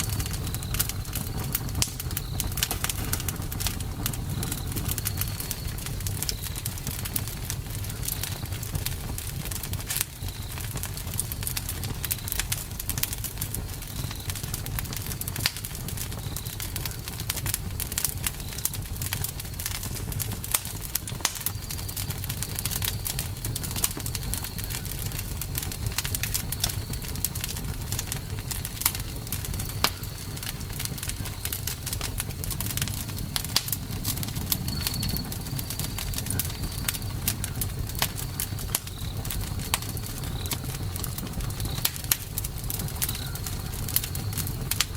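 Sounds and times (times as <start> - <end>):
campfire wood crackling: 0.0 - 44.9
low rumble of flames: 0.0 - 44.9.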